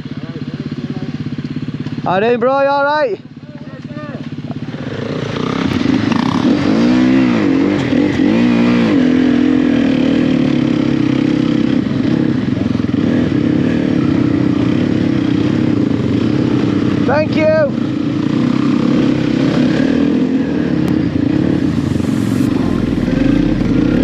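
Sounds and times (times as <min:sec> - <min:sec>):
dirt bike engine revving and idling: 0:00.0 - 0:24.0.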